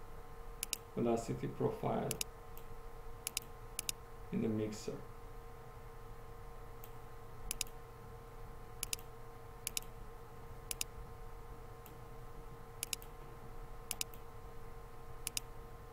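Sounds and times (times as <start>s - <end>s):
faint electrical hum: 0.0s - 15.9s.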